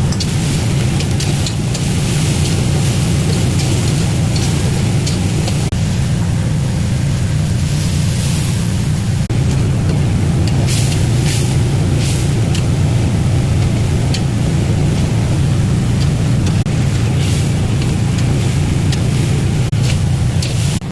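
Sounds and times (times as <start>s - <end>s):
chicken frying in hot oil: 0.0s - 20.9s
loud low rumble: 0.0s - 20.9s.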